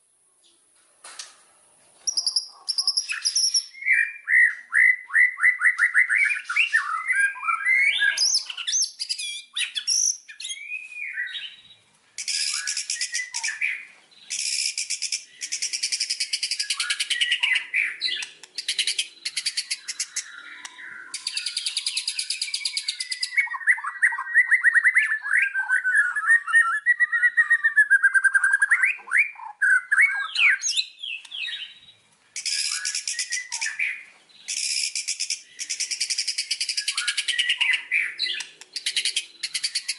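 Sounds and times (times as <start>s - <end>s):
bird singing whistled phrases: 2.1s - 11.6s, 12.2s - 31.8s, 32.4s - 39.9s.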